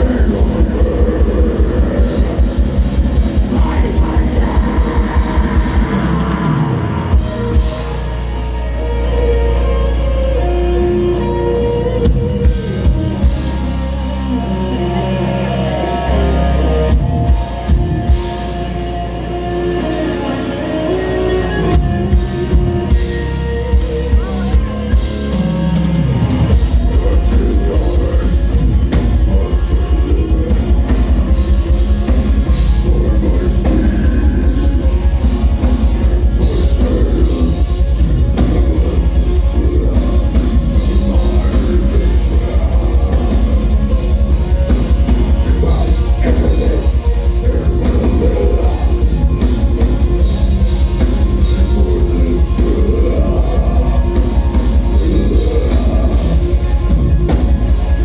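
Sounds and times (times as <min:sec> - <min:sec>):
death metal band playing: 0:00.0 - 0:58.0.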